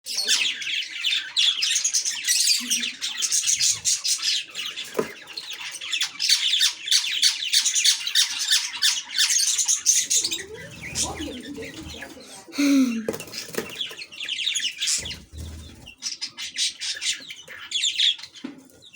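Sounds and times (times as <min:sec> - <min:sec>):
lovebirds chirping and squawking: 0:00.1 - 0:18.9.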